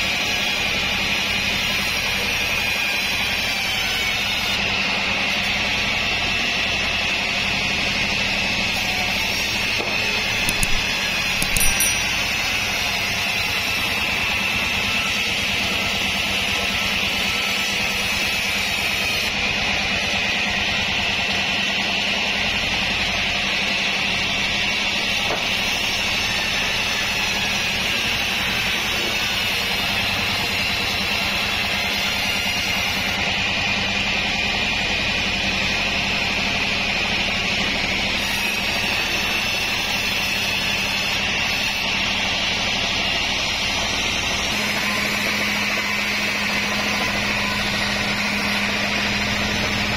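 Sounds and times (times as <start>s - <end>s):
band saw blade whine in wood: 0.0s - 49.9s.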